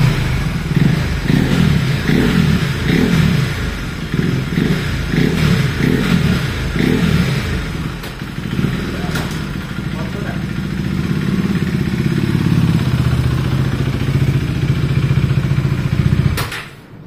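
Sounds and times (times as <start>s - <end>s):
motorcycle engine revving: 0.0s - 16.5s.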